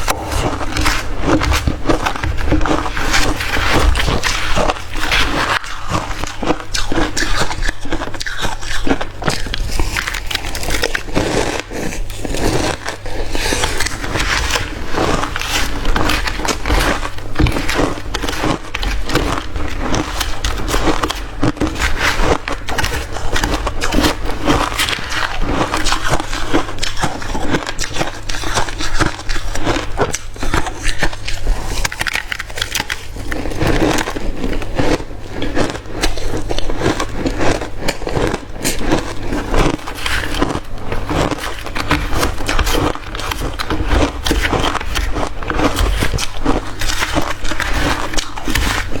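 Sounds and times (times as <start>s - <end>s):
person chewing crushed ice: 0.0s - 49.0s.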